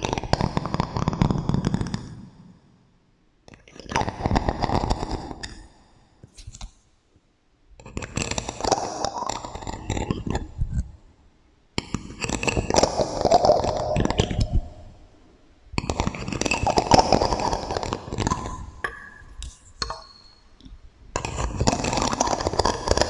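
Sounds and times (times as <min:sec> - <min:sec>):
tapping and scratching with echo: 0:00.0 - 0:02.5, 0:03.5 - 0:06.8, 0:07.8 - 0:11.0, 0:11.8 - 0:15.1, 0:15.7 - 0:23.0.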